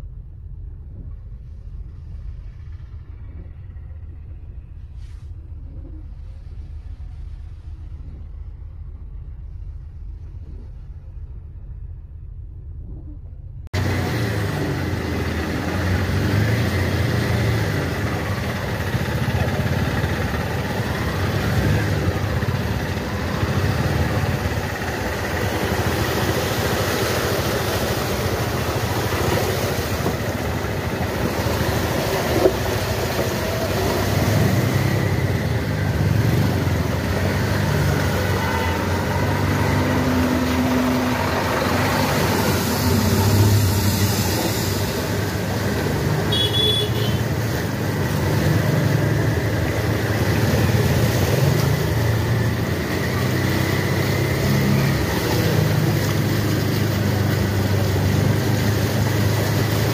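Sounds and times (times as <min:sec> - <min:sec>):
traffic engines rumbling: 0:00.0 - 0:59.9.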